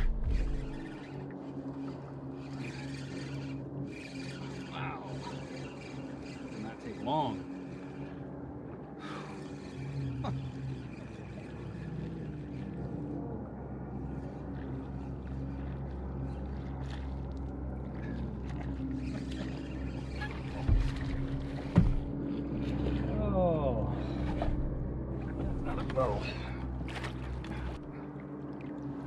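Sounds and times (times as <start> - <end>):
outboard motor idling: 0.0 - 29.0.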